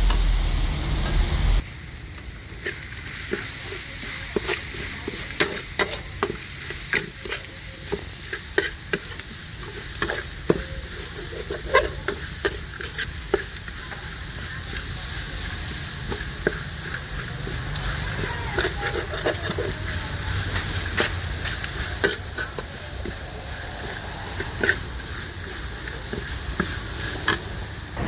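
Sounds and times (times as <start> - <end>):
chicken sizzling in a pan: 0.0 - 28.0.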